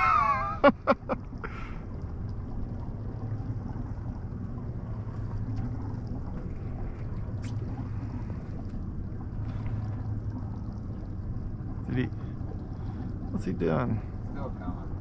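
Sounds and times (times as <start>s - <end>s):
wind and water around boat: 0.0s - 15.0s.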